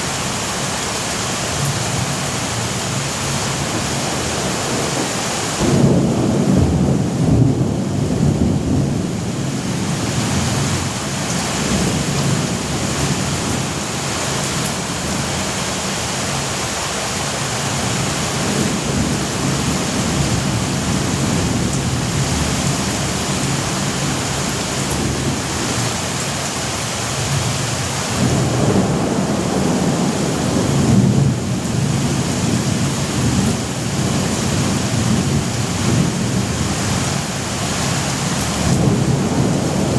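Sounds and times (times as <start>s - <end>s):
heavy rain: 0.0s - 39.9s
low rolling thunder: 3.5s - 15.6s, 17.8s - 26.2s, 27.3s - 37.6s, 38.2s - 39.9s.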